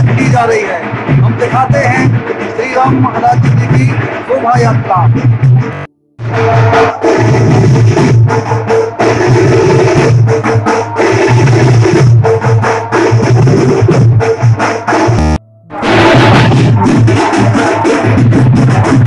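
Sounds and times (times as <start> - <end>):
drum-driven music with heavy bass: 0.0 - 19.0.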